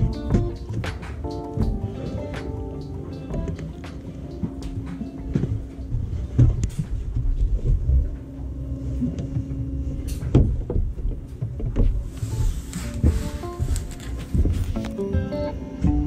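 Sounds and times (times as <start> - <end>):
steady low rumble: 0.0 - 14.9
footsteps on metal deck: 0.0 - 15.3.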